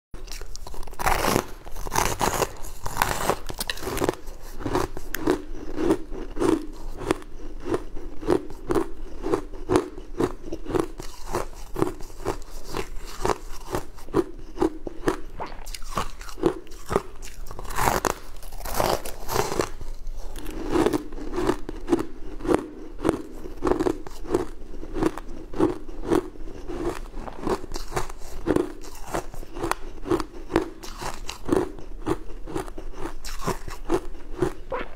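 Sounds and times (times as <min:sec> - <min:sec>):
ice crunching between teeth: 0:00.2 - 0:34.9.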